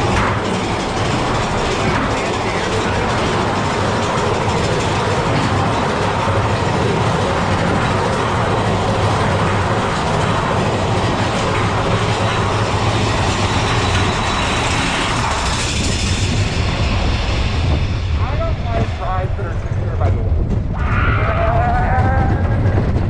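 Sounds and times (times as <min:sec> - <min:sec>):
roller coaster wheels clattering on rails: 0:00.0 - 0:23.0.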